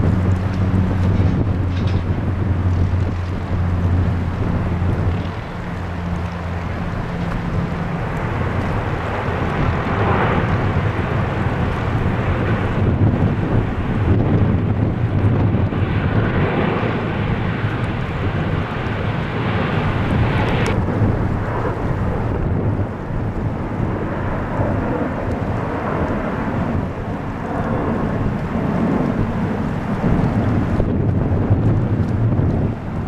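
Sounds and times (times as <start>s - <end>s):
jet engines rumbling: 0.0s - 33.0s
wind buffeting microphone: 0.0s - 33.0s.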